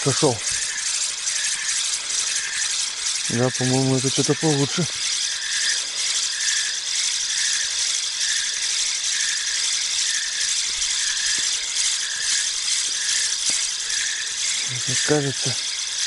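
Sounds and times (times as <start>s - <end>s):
fishing reel gears rattling: 0.0s - 16.0s.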